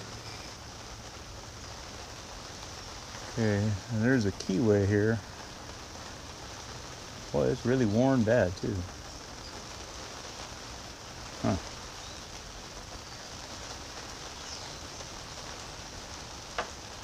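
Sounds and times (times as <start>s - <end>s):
rain on tent canopy: 0.0s - 17.0s.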